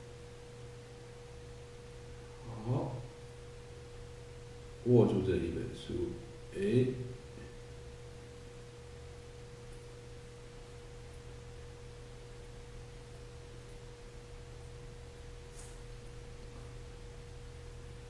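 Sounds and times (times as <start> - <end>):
electrical hum with whine: 0.0 - 18.0.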